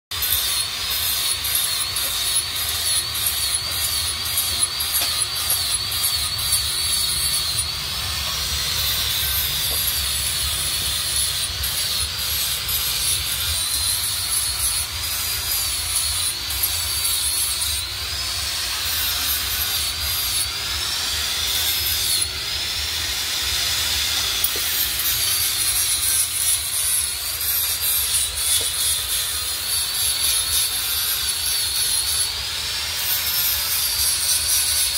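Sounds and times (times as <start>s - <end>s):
angle grinder grinding steel: 0.1s - 34.9s.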